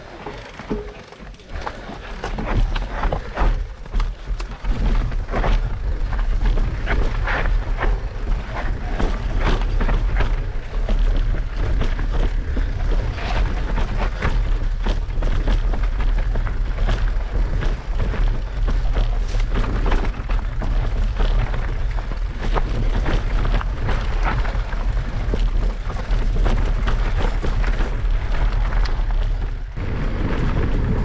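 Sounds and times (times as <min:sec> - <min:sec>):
bike rattling and knocking: 0:00.0 - 0:31.0
wind and vibration rumble: 0:00.0 - 0:31.0.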